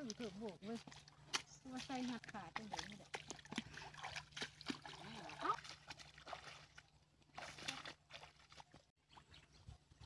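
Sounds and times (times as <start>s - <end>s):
boots splashing through water: 0.0s - 9.5s.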